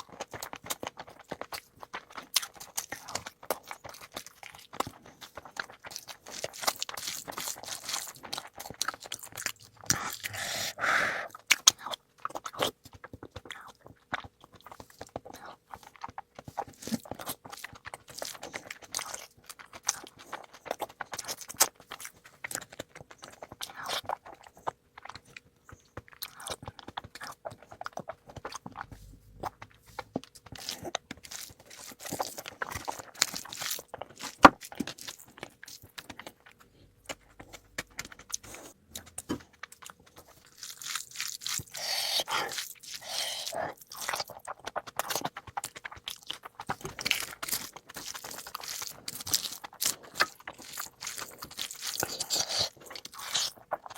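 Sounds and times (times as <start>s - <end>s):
chewing and biting food: 0.0s - 53.9s.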